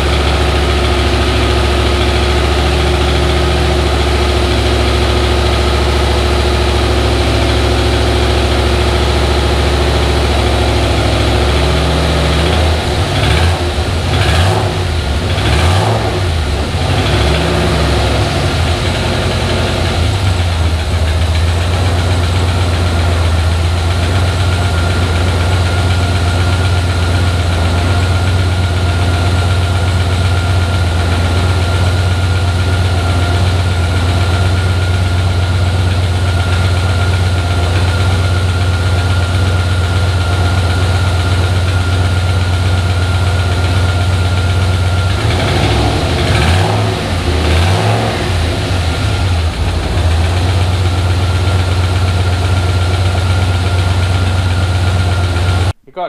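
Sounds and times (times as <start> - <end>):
engine idling and revving: 0.0 - 55.8.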